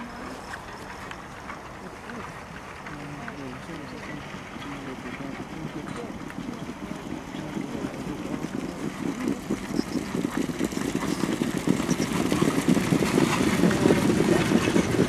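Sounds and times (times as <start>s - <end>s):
cart wheels rumbling on dirt: 0.0s - 15.0s
horse hoofbeats trotting: 0.0s - 15.0s.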